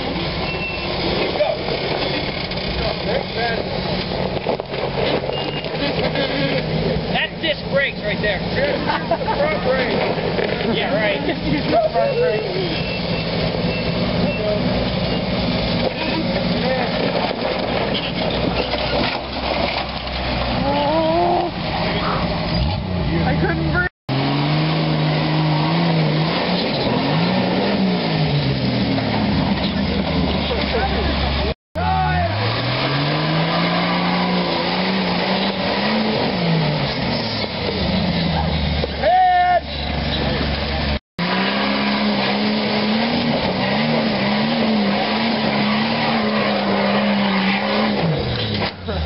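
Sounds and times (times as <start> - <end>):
off-road vehicle engine revving: 0.0 - 49.0.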